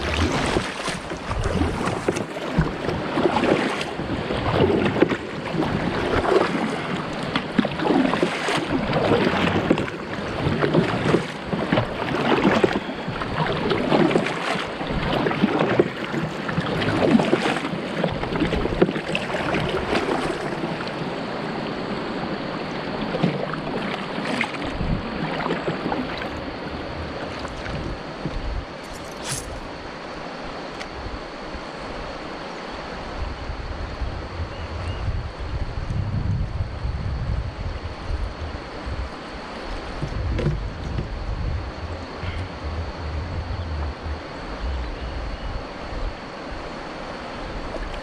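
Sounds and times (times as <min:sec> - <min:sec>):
paddle strokes splashing in water: 0:00.0 - 0:29.8, 0:37.8 - 0:48.0
water washing along hull: 0:00.0 - 0:48.0.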